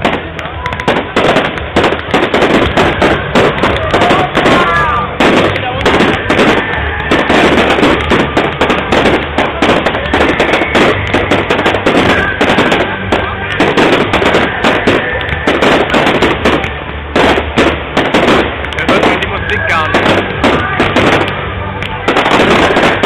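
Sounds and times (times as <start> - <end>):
fireworks bursting: 0.0 - 23.0
fireworks crackling: 0.0 - 23.0.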